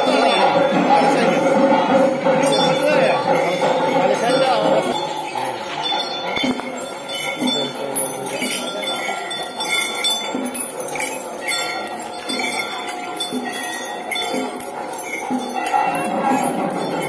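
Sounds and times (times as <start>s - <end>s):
metal bells jingling: 0.0s - 17.0s.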